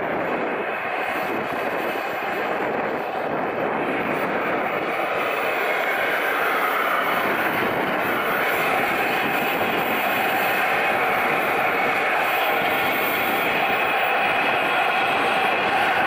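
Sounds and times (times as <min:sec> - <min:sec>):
model jet engine running: 0:00.0 - 0:16.0.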